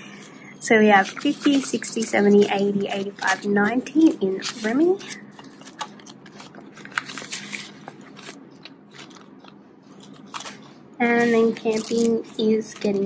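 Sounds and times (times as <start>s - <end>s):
plastic rustling and crinkling: 0.0s - 13.0s.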